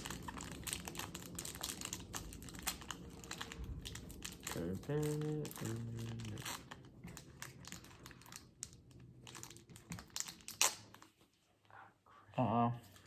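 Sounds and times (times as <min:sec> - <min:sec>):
foil wrapper crinkling: 0:00.0 - 0:11.2.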